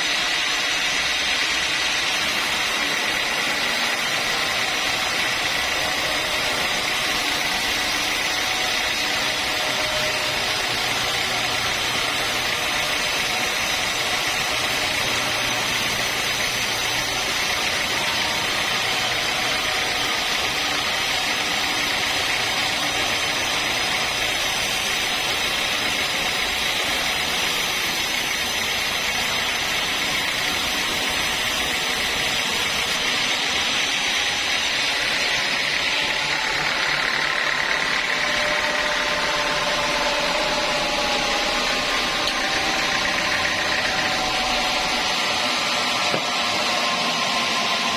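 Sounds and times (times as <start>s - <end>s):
sawmill saw running: 0.0s - 47.9s.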